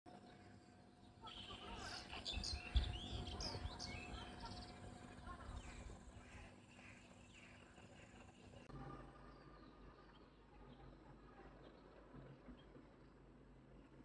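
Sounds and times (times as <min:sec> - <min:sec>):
small birds chirping: 0:00.1 - 0:13.2.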